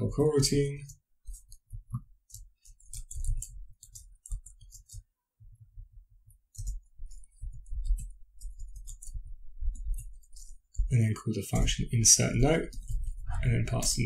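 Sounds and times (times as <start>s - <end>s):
computer keyboard typing: 0.1s - 5.1s, 6.3s - 14.0s.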